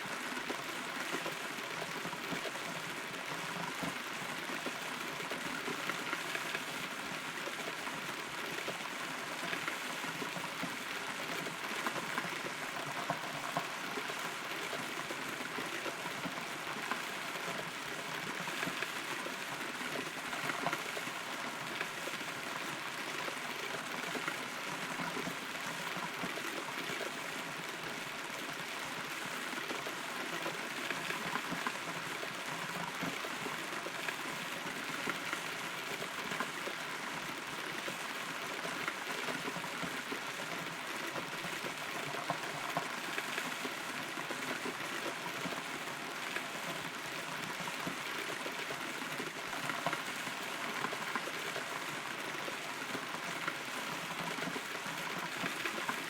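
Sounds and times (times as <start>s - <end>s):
rain patter on hollow tree: 0.0s - 56.0s.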